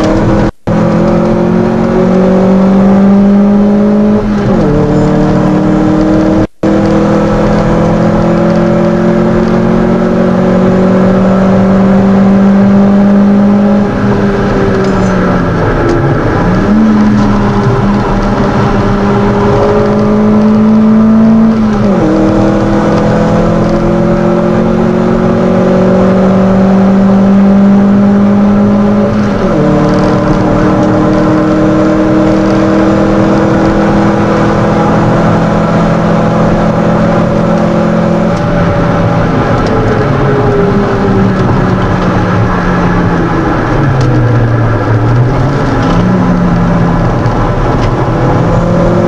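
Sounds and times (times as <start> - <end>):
car engine revving: 0.0 - 49.0
road and wind noise: 0.0 - 49.0.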